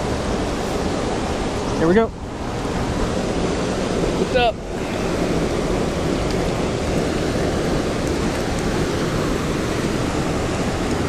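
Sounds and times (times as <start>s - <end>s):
river rushing over weir: 0.0s - 11.0s.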